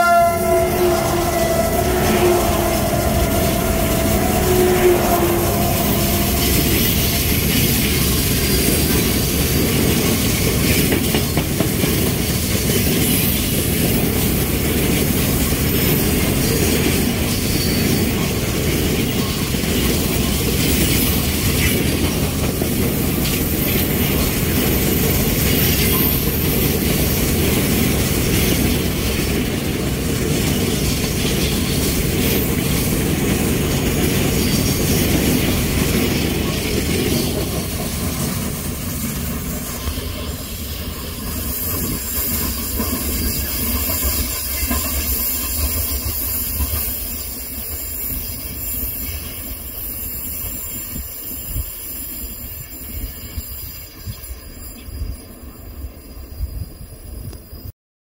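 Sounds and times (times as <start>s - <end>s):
train wheels running on rails: 0.0s - 57.7s.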